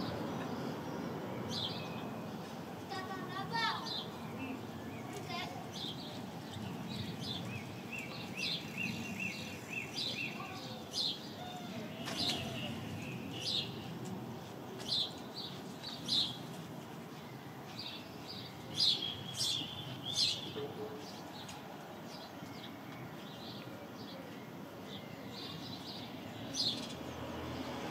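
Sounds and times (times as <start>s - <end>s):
sparrows chirping: 0.0s - 27.9s.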